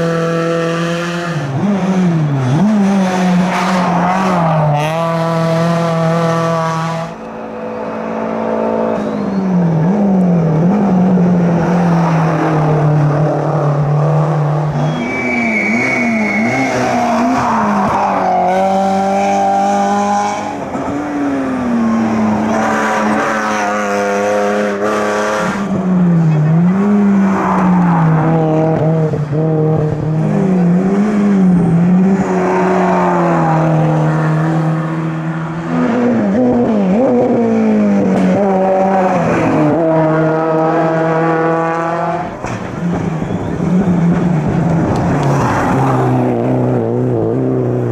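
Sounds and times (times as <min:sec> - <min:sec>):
racing car engines under load: 0:00.0 - 0:47.9.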